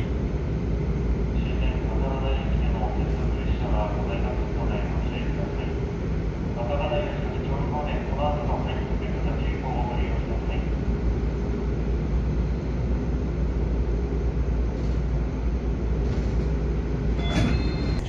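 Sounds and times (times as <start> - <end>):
train interior rumble: 0.0 - 18.0.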